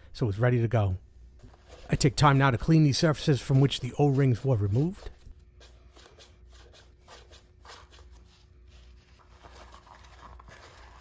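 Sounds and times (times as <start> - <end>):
paper towel rubbing metal: 1.4 - 11.0.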